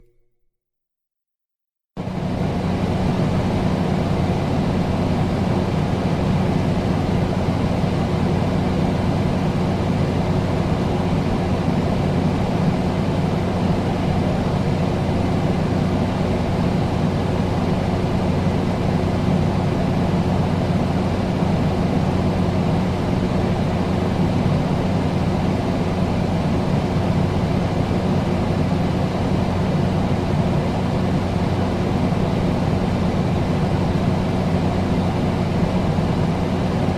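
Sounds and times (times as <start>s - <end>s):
air conditioner running: 2.0s - 36.9s.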